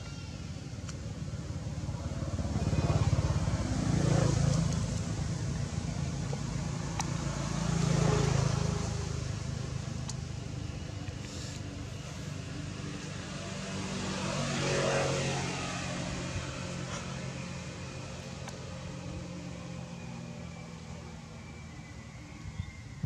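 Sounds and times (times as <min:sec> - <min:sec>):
vehicles passing by: 0:00.0 - 0:23.0.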